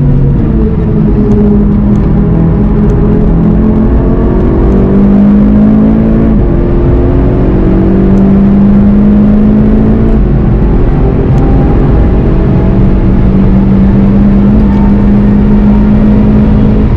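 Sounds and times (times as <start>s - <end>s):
car engine accelerating hard: 0.0s - 16.9s.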